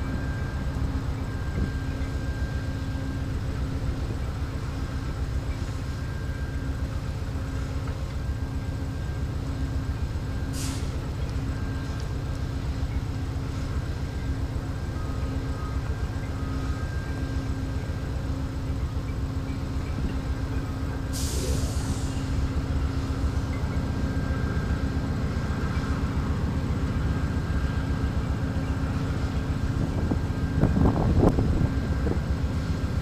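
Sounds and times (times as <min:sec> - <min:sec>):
diesel locomotive idling: 0:00.0 - 0:33.0.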